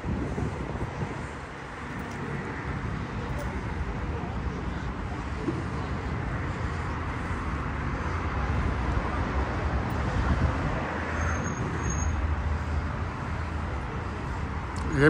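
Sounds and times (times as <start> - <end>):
low urban rumble: 0.0 - 15.0.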